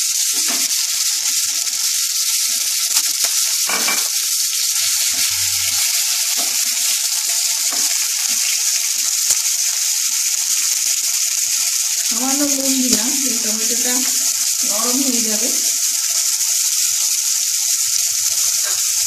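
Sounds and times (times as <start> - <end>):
tomatoes sizzling in oil: 0.0 - 19.0.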